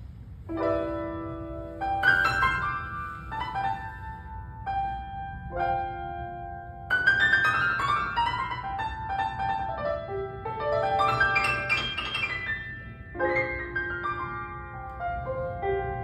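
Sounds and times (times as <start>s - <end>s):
solo piano playing: 0.0s - 16.0s.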